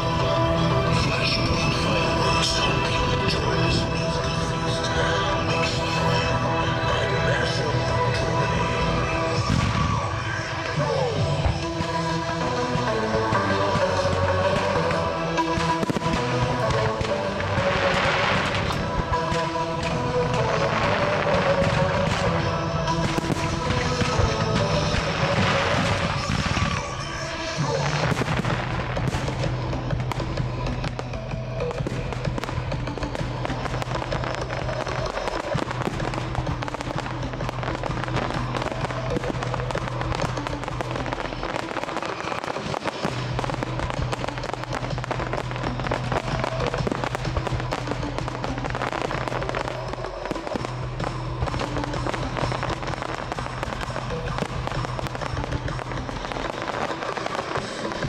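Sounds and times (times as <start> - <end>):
fireworks popping and crackling: 0.0 - 58.0
music playing: 0.0 - 58.0.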